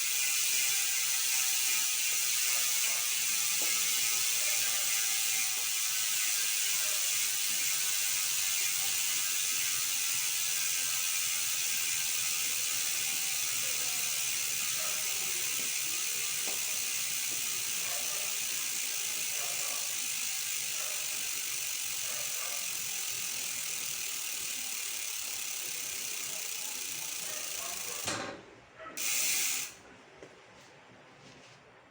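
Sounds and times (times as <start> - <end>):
bicycle hub ratcheting buzz: 0.0 - 28.2, 29.0 - 29.8.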